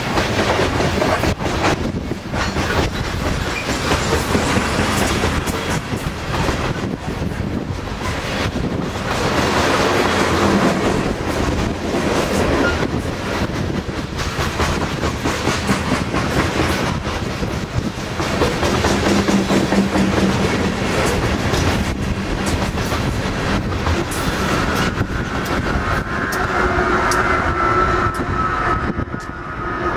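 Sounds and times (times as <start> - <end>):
freight train wheels clattering: 0.0 - 29.5
diesel locomotive engine hum: 0.0 - 29.9.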